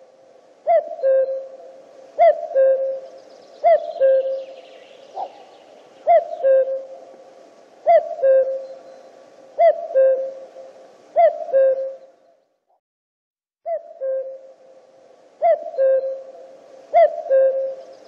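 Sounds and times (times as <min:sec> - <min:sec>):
cuckoo calling: 0:00.6 - 0:07.2, 0:07.8 - 0:12.4, 0:13.7 - 0:14.8, 0:15.4 - 0:18.0.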